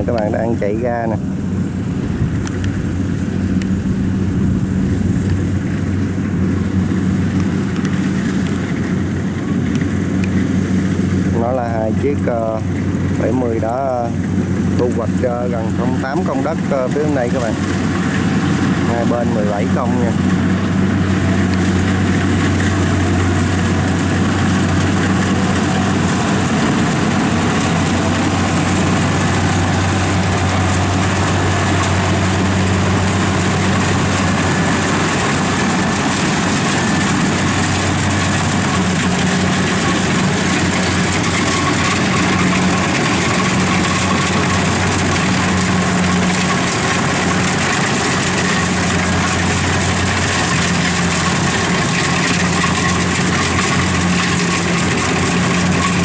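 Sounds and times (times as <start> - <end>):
combine harvester engine running: 0.0 - 56.0.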